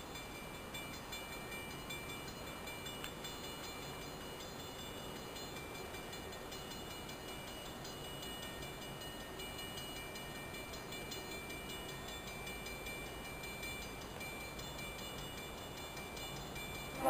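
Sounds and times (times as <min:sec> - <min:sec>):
distant diesel locomotive rumble: 0:00.0 - 0:17.0.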